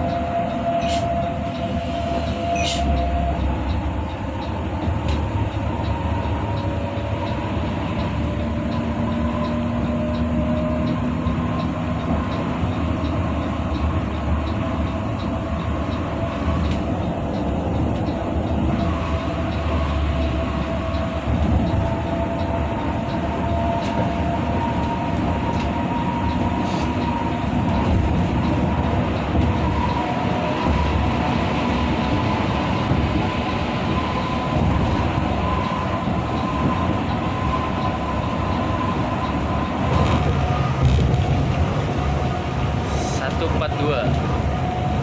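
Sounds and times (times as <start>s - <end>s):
coach engine and tyre rumble: 0.0s - 45.0s.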